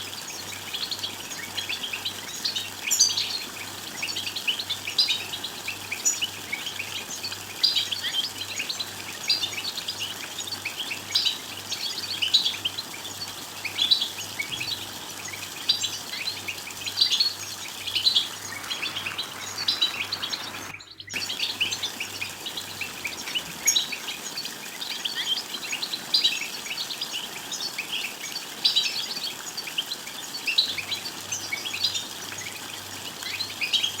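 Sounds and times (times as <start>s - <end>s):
goldfinch twittering: 0.0s - 34.0s.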